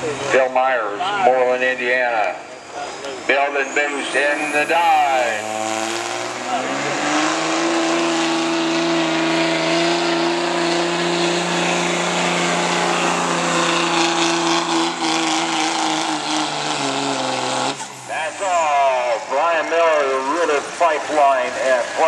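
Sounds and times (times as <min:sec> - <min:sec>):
diesel truck engine at high revs: 0:00.0 - 0:22.0.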